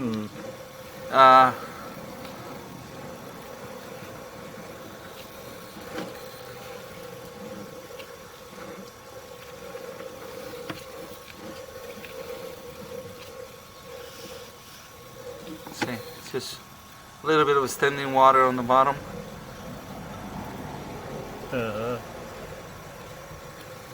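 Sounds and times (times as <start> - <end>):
steady mechanical hum: 0.0 - 23.9.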